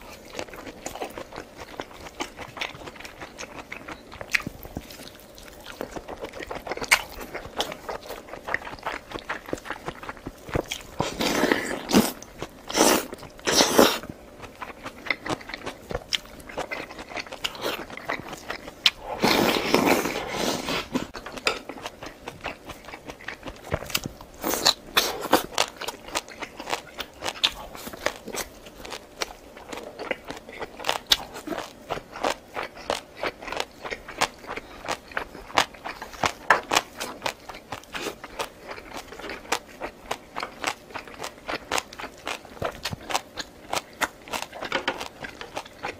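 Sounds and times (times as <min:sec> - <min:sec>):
crunching and chewing: 0:00.0 - 0:45.9.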